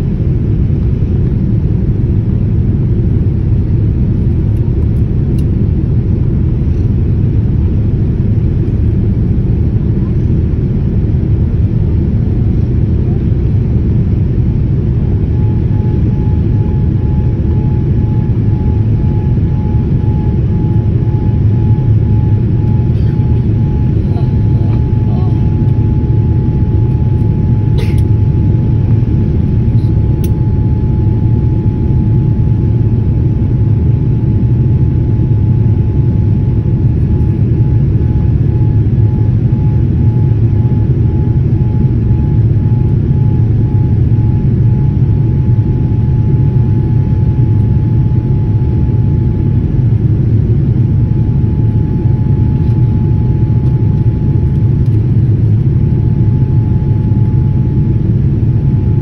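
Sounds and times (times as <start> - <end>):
jet engine roar in cabin: 0.0 - 59.0
thin steady whine: 0.0 - 59.0.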